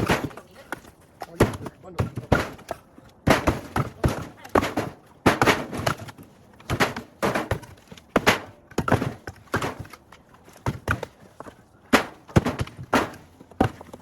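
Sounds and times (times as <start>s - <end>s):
firewood pieces knocking together: 0.0s - 14.0s.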